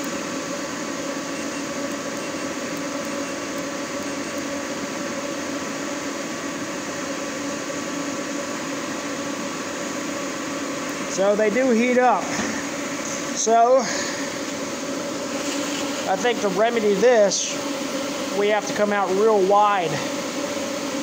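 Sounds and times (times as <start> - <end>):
forge fan and pump hum: 0.0 - 21.0.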